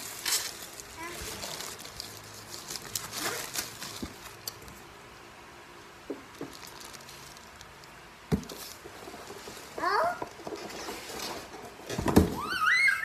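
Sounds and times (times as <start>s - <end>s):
plastic bags rustling: 0.0s - 4.9s, 6.1s - 13.0s.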